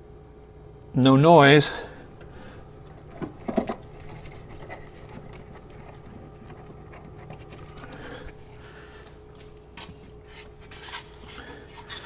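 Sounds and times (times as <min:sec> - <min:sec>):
refrigerator hum: 0:00.0 - 0:12.0.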